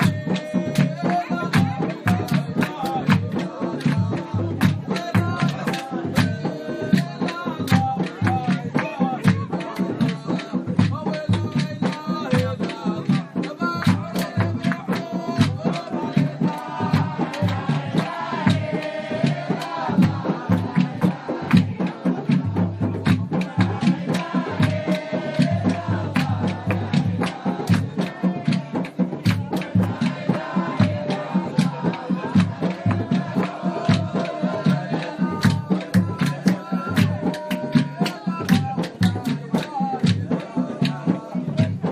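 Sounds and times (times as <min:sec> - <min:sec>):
group of voices chanting: 0:00.0 - 0:10.8, 0:11.4 - 0:41.9
hand percussion: 0:00.0 - 0:41.9.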